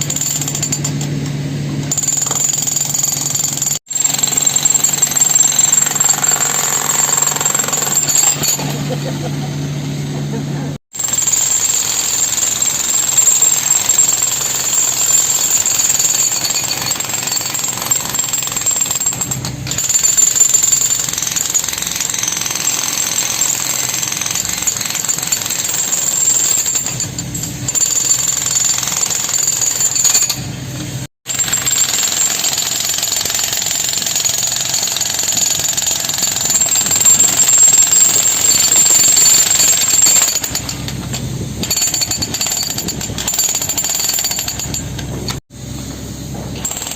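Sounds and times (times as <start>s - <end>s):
jackhammer chipping concrete: 0.0s - 1.2s, 1.9s - 9.4s, 11.0s - 30.5s, 31.3s - 45.4s, 46.6s - 46.9s.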